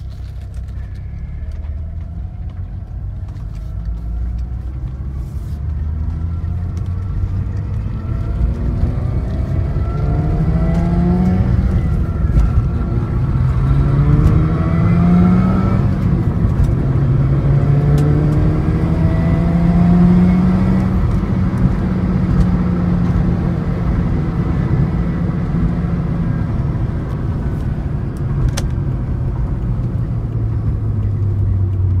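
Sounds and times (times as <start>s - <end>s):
car engine accelerating: 0.0s - 32.0s
road noise: 0.0s - 32.0s.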